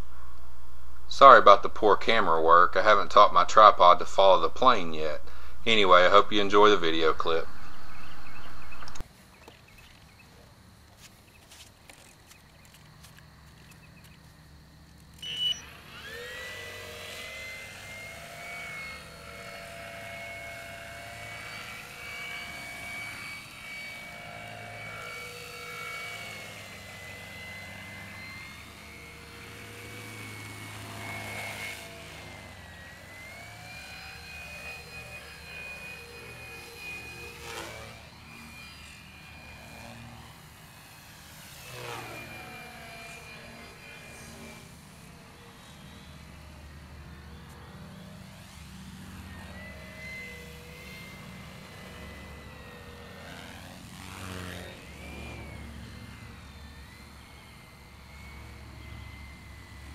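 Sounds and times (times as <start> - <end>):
electric model plane motor whine: 1.3 - 59.9.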